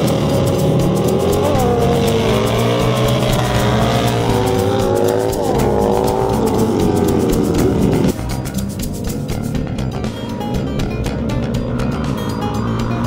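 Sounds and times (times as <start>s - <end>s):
motorcycles revving and accelerating: 0.0s - 13.0s.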